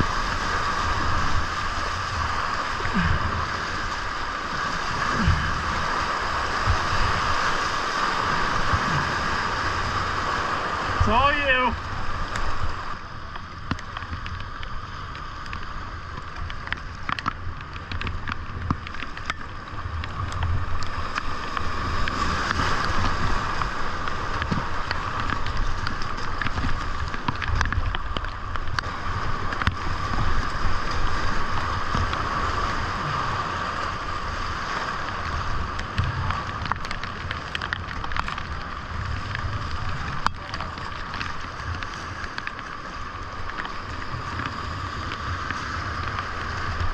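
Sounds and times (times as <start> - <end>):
whitewater rapids rushing: 0.0 - 14.4, 18.9 - 46.9
paddle splashes: 0.0 - 46.9
wind rumble on microphone: 0.0 - 46.9.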